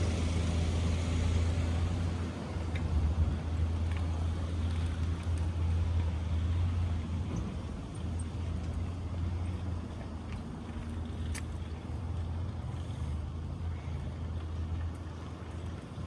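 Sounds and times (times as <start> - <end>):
traffic noise: 0.0 - 16.0
vehicle rumbling: 0.0 - 16.0.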